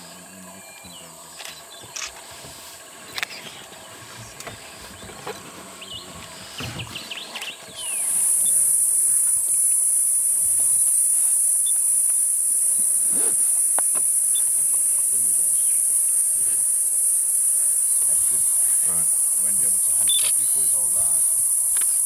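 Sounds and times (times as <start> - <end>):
high-pitched night insect chorus: 0.0 - 22.0.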